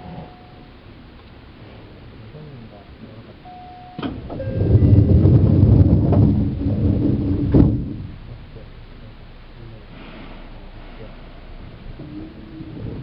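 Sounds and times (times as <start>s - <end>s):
loud low train rumble: 0.0s - 13.0s.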